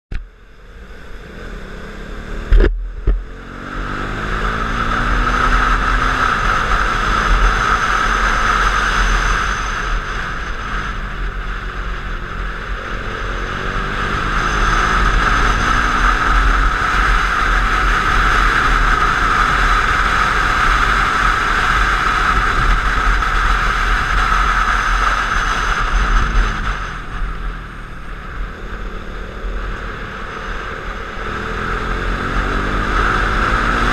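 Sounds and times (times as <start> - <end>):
motorcycle engine accelerating: 0.1 - 33.9
wind rush: 0.7 - 33.9.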